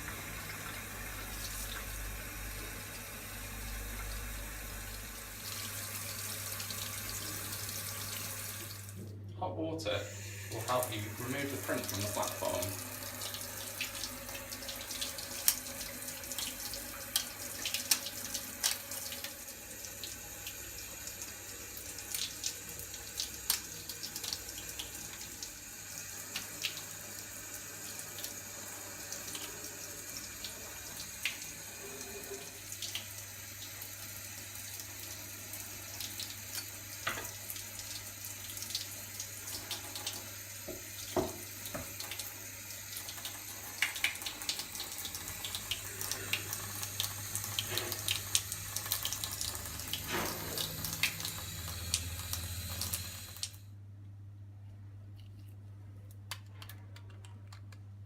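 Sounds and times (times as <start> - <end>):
tap water running into sink: 0.0 - 9.1, 10.2 - 53.6.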